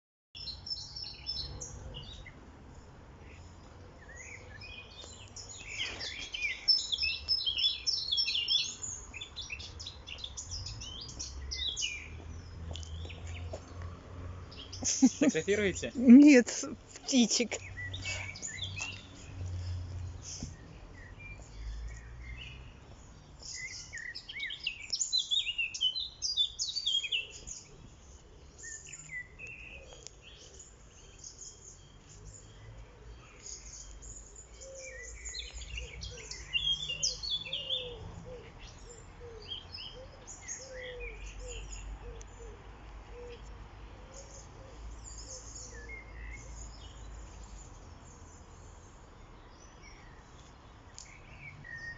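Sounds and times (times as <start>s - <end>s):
songbirds singing and chirping: 0.4s - 51.9s.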